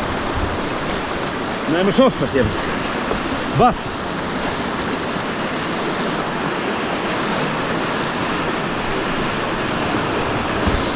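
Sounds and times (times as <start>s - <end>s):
river rapids rushing: 0.0s - 10.9s.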